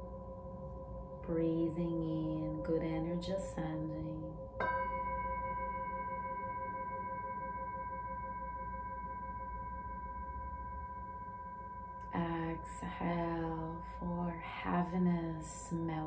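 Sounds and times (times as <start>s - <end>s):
low pulsing bowl tone: 0.0s - 16.0s
singing bowl ringing: 0.0s - 16.0s.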